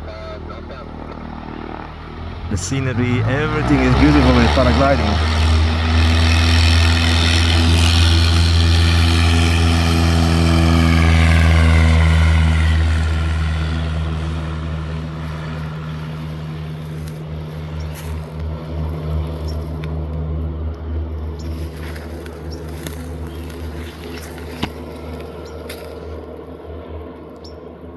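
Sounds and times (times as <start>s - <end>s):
propeller airplane flying past: 0.0s - 27.9s.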